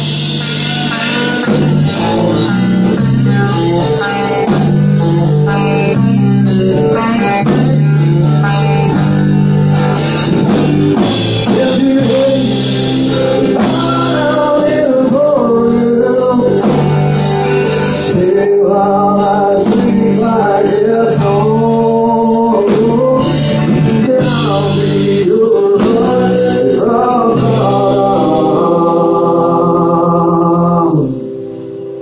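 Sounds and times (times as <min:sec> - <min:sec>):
bass: 0:00.0 - 0:32.0
drums: 0:00.0 - 0:32.0
electric guitar: 0:00.0 - 0:32.0
man singing lead vocal: 0:02.0 - 0:09.3, 0:11.0 - 0:31.4.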